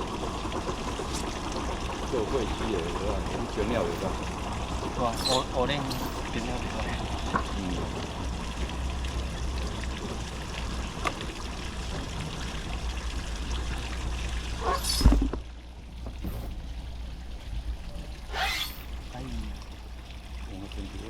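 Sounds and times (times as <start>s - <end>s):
water pouring and splashing: 0.0s - 21.0s.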